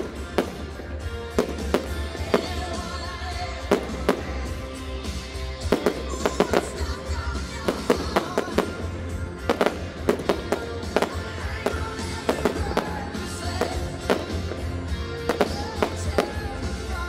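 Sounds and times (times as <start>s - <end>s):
fireworks bangs: 0.0s - 4.8s, 5.6s - 17.0s
music: 0.0s - 17.0s.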